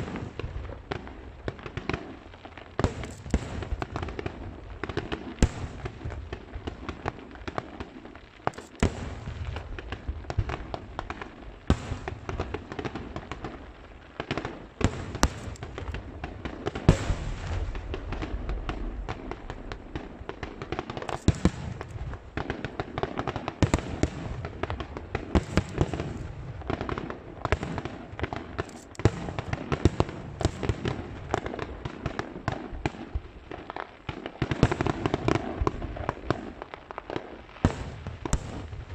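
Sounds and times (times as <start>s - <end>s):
fireworks bursting and crackling: 0.0s - 38.9s
loud fireworks booms: 0.0s - 38.9s.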